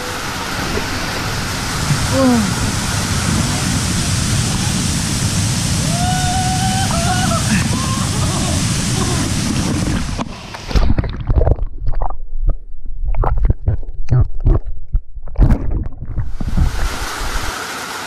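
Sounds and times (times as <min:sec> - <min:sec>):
steady rushing noise: 0:00.0 - 0:11.5, 0:13.2 - 0:18.0
low rumbling thumps: 0:00.7 - 0:17.5.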